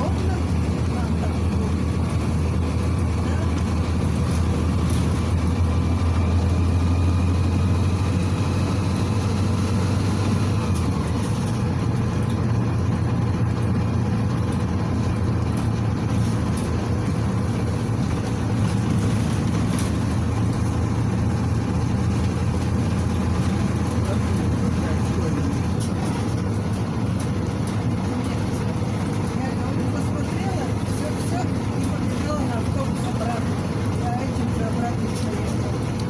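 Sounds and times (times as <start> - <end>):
diesel engine droning: 0.0 - 36.0
road noise: 0.0 - 36.0.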